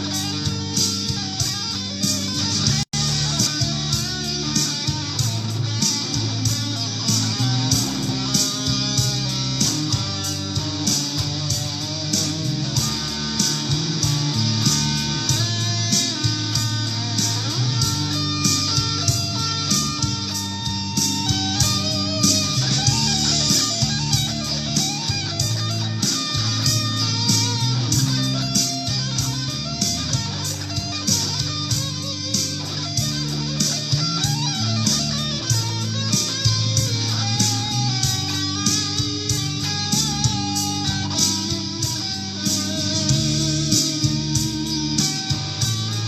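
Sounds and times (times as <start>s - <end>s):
bass: 0.0s - 46.0s
cymbals keeping a beat: 0.0s - 46.0s
drums: 0.0s - 46.0s
electric guitar melodic line: 0.0s - 46.0s.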